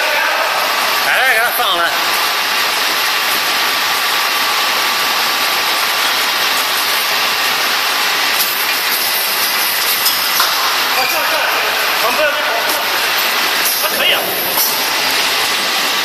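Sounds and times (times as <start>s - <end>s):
machine hiss and whir: 0.0s - 16.0s.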